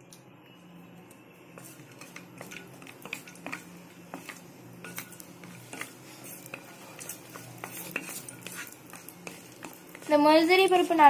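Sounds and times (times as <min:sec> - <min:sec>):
wooden spatula scraping pan: 0:01.6 - 0:11.0.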